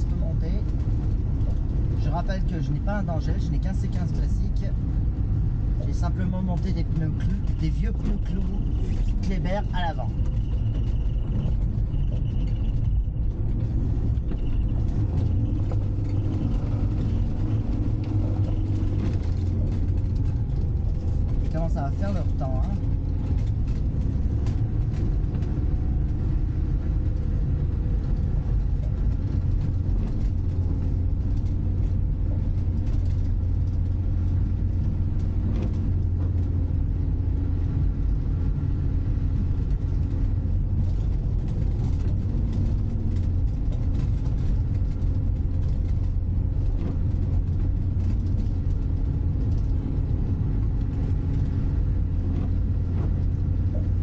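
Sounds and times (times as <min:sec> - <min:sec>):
diesel engine droning: 0:00.0 - 0:54.0
tyre noise on snowy road: 0:00.0 - 0:54.0.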